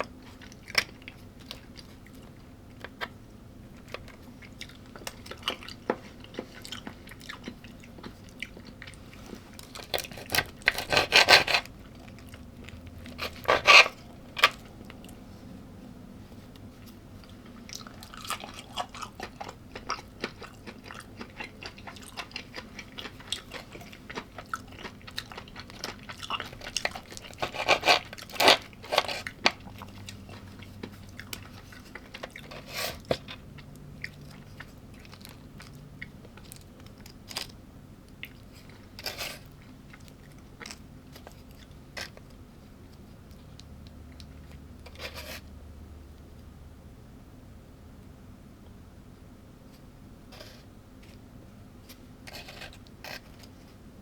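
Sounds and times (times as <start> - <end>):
person chewing food: 0.0 - 15.2, 16.5 - 45.5.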